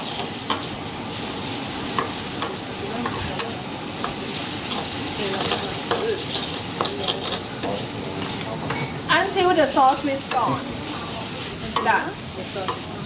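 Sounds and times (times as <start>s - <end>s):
noodles sizzling in a wok: 0.0s - 13.0s.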